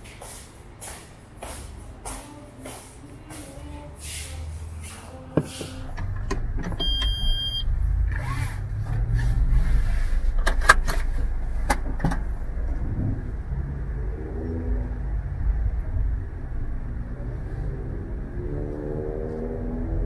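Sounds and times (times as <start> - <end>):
car engine rumble: 3.5 - 20.0.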